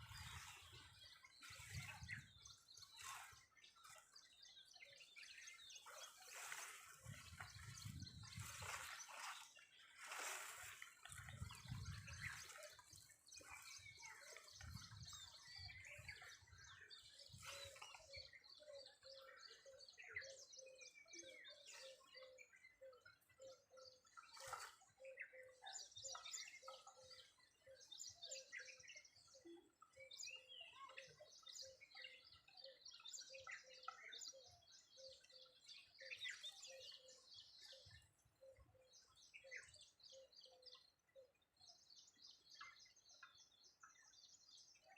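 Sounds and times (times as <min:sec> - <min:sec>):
small birds chirping and trilling: 0:00.0 - 0:44.9.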